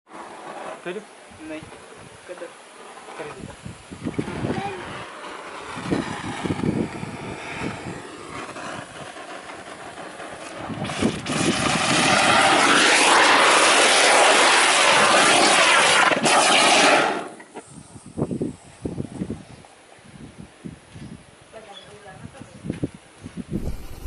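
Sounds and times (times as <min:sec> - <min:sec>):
firework fountain rushing hiss: 0:00.1 - 0:19.2, 0:23.5 - 0:24.0.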